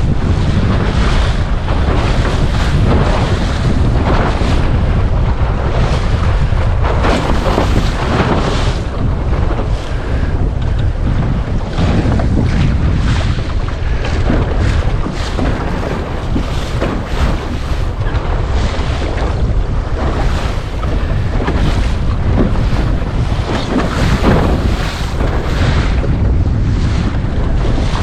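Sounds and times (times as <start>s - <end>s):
water slapping against hull: 0.0s - 28.0s
wind buffeting microphone: 0.0s - 28.0s.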